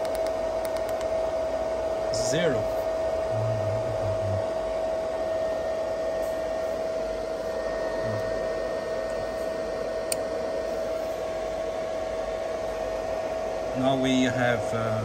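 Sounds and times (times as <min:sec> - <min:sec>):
fan-like whir with steady whine: 0:00.0 - 0:15.0.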